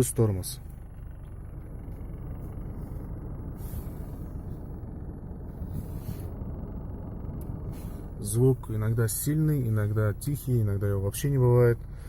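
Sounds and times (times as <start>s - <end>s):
buzzing dashboard rattle: 0.0s - 12.0s
car engine idling: 0.0s - 12.0s.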